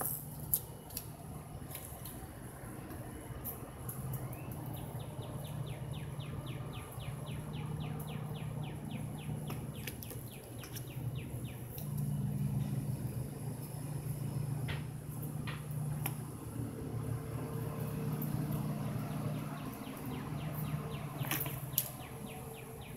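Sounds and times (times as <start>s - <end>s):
low machine hum: 0.0s - 22.9s.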